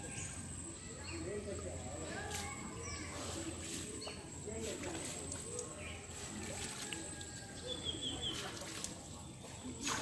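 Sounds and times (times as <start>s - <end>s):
water splashing and sloshing: 1.6s - 10.0s.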